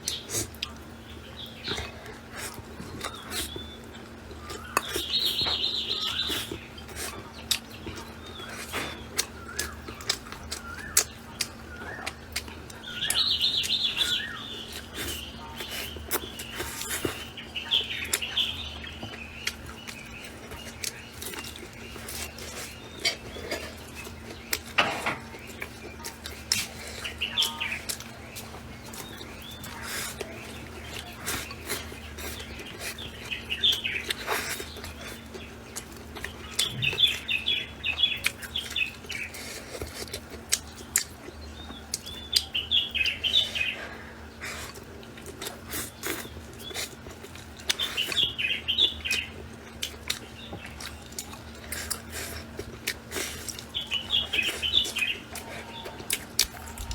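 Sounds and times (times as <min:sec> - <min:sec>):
person chewing food: 0:00.0 - 0:56.9
small birds chirping: 0:00.0 - 0:56.9.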